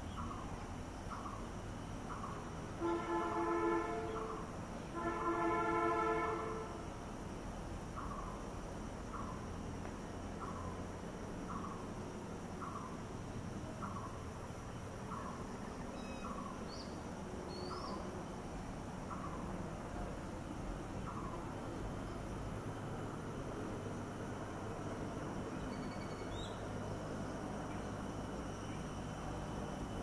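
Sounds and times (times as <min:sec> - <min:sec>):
low background hiss: 0:00.0 - 0:30.0.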